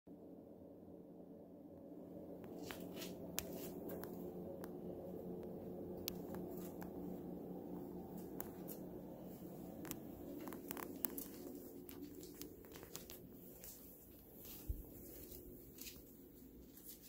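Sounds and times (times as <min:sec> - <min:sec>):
faint room hum: 0:00.1 - 0:17.0.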